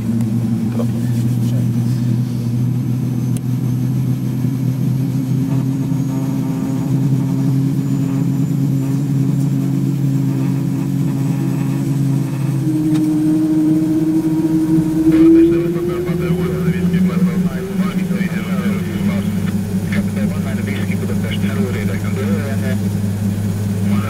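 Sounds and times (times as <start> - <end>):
engine whine rising in pitch: 0.0 - 24.0
turboprop idling hum: 0.0 - 24.0.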